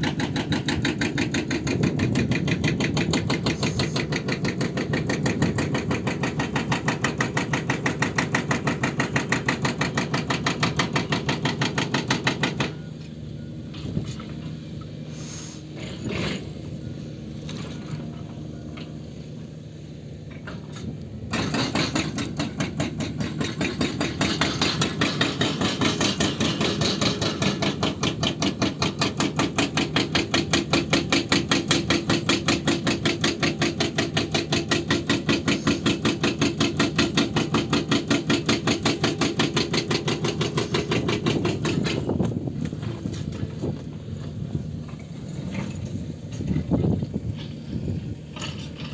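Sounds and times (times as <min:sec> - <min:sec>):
hydraulic breaker striking rock: 0:00.0 - 0:12.9, 0:20.2 - 0:48.9
excavator engine running: 0:00.0 - 0:48.9.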